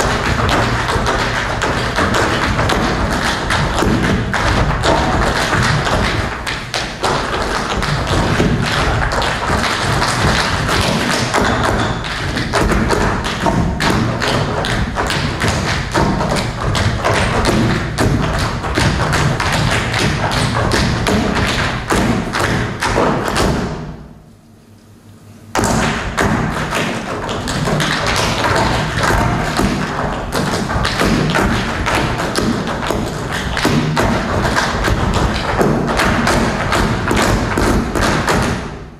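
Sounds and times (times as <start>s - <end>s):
hard-soled shoes striking stage floor: 0.0s - 24.1s, 25.6s - 38.9s.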